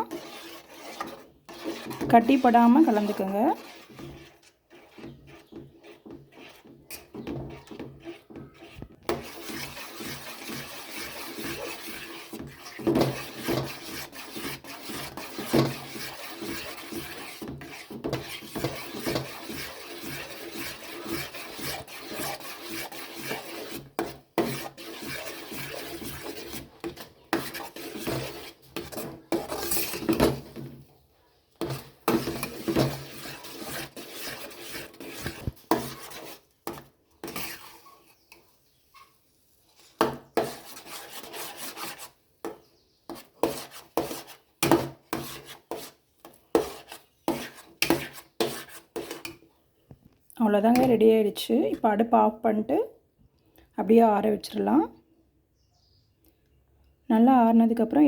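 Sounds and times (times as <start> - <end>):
spatula scraping thick mixture: 0.0 - 49.6, 50.4 - 52.1.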